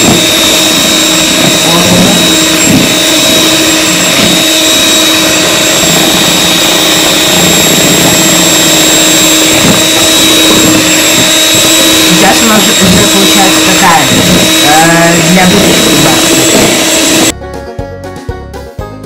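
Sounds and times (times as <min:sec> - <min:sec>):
electric mixer motor whine: 0:00.0 - 0:17.4.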